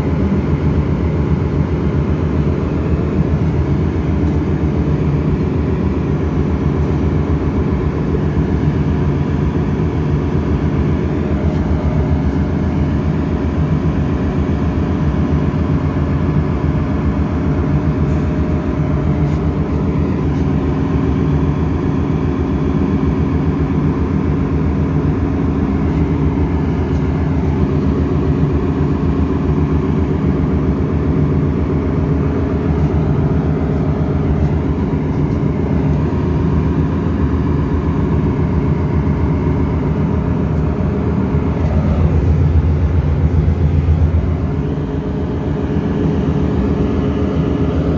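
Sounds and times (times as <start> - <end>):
engine-room machinery drone: 0.0 - 47.9
faint constant hum: 0.0 - 47.9.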